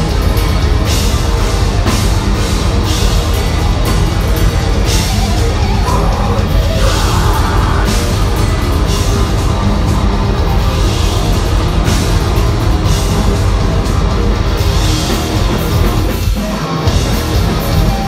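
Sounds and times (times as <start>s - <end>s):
live heavy metal band: 0.0s - 18.0s.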